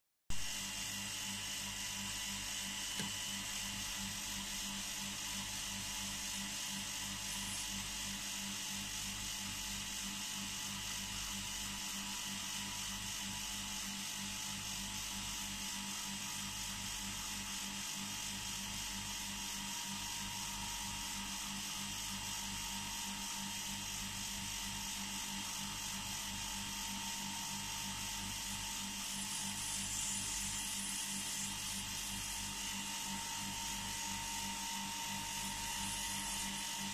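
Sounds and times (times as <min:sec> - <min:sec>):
vacuum pump buzzing: 0:00.3 - 0:36.9.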